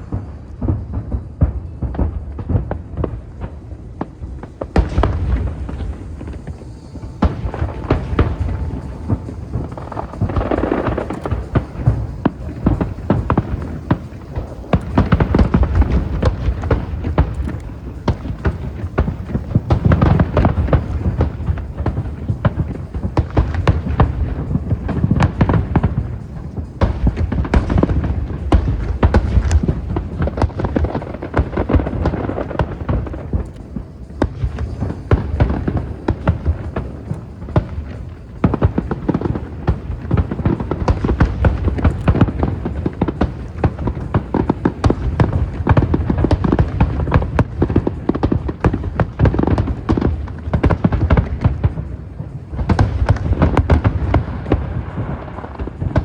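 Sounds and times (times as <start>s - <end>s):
firework deep booms: 0.0s - 56.0s
firework sharp cracks and crackle: 0.0s - 56.0s.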